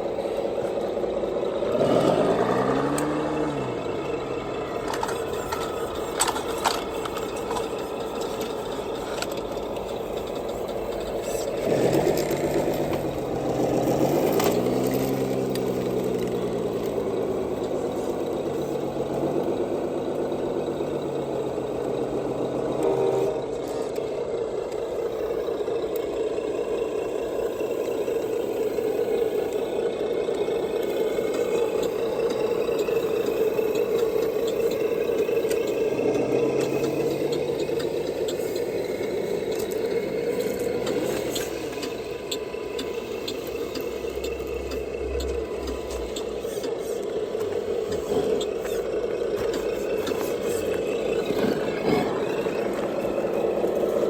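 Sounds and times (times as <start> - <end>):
toy truck motor whining: 0.0 - 54.0
sharp clicks and rattles: 1.4 - 22.9, 29.0 - 54.0.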